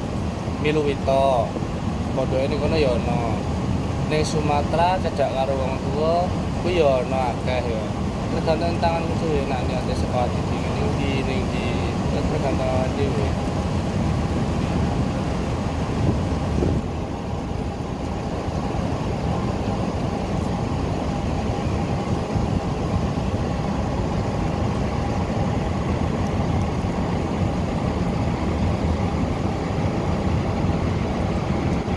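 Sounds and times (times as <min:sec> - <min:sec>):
faint steady hum: 0:00.0 - 0:31.9
ferry engine drone: 0:00.0 - 0:31.9.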